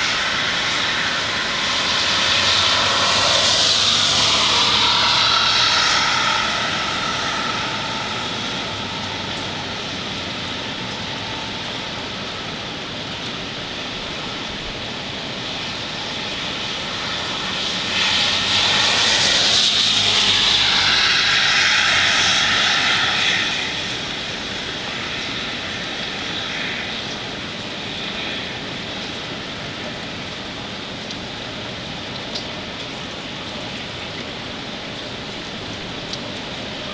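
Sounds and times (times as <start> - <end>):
hurricane wind rushing: 0.0 - 36.9.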